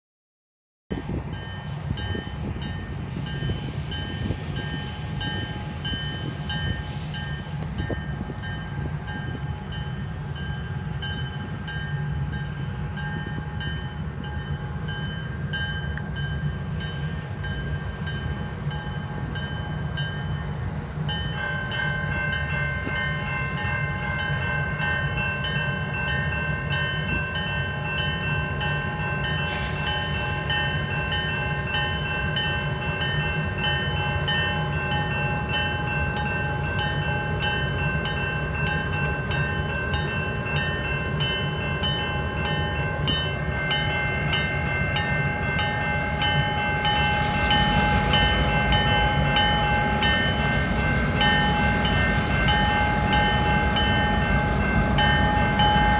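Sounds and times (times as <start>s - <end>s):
diesel locomotives rumbling: 0.9s - 55.9s
level-crossing bell dinging: 1.3s - 55.9s.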